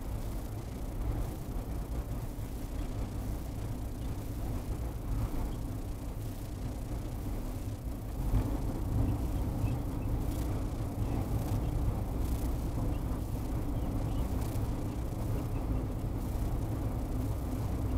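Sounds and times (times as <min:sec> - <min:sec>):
faint crackles: 0:00.2 - 0:17.9.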